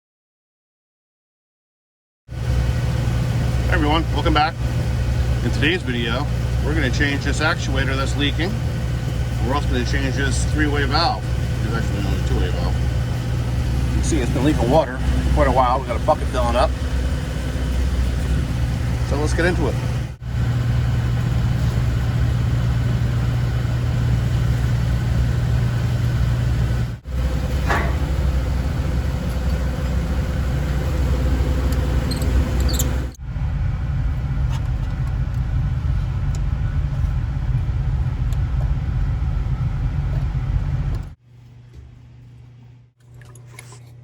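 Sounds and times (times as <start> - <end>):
hvac machinery hum: 2.3 - 44.0.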